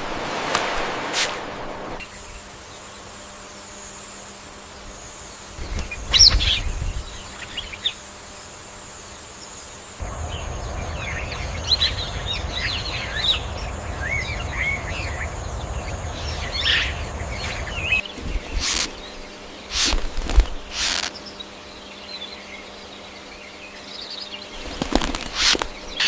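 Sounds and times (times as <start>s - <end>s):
high insect whine: 0.0s - 26.0s
birds chirping: 1.9s - 26.0s.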